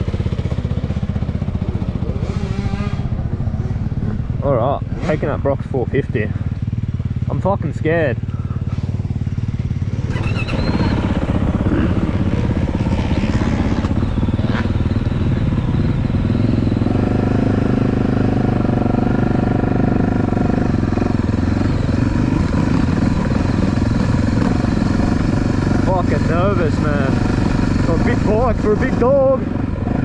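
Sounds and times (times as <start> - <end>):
motocross engine running: 0.0 - 30.0.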